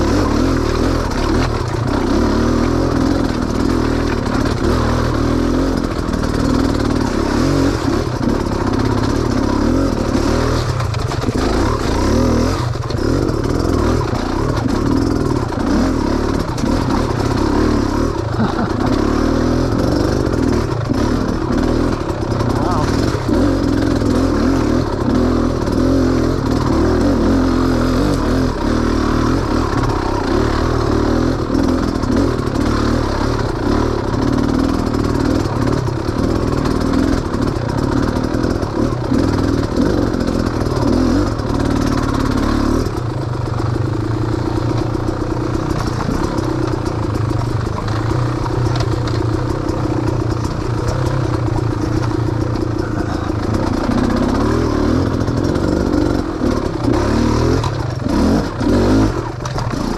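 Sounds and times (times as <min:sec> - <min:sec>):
clatter from bumps: 0:00.0 - 0:59.9
off-road vehicle engine: 0:00.0 - 0:59.9.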